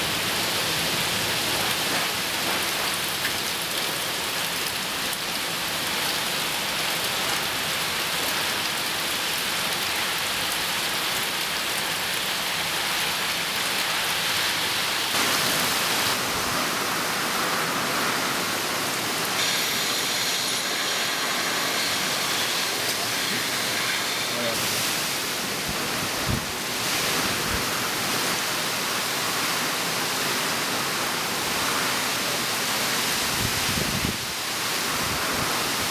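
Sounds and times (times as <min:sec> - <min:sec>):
heavy rain falling: 0:00.0 - 0:35.9
water pouring off roof: 0:00.0 - 0:35.9.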